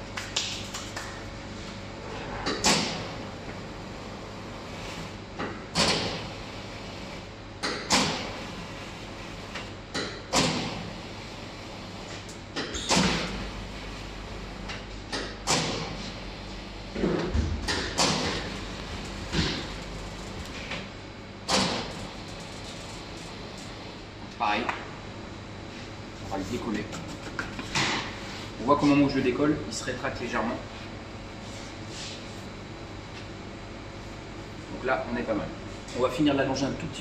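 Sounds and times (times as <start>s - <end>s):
dough sheeter motor hum: 0.0s - 37.0s.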